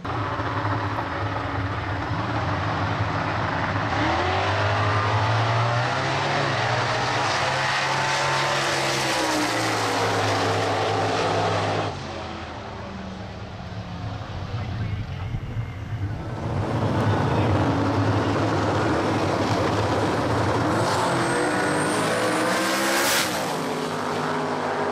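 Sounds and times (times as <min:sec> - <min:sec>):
race car engine at full throttle: 0:00.0 - 0:24.9.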